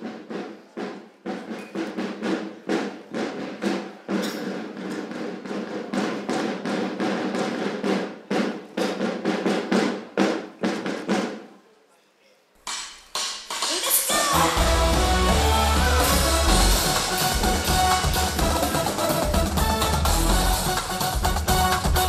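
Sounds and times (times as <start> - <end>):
snare drums playing: 0.0 - 11.5, 12.7 - 22.0.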